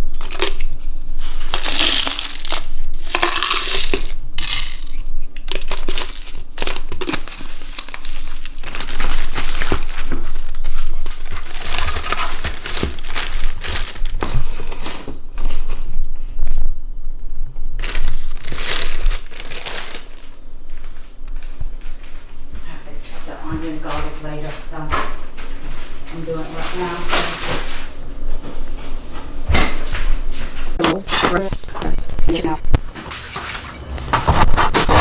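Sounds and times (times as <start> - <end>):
crinkling and crumpling: 0.0 - 16.6, 17.8 - 22.7, 23.5 - 28.9, 30.3 - 35.0.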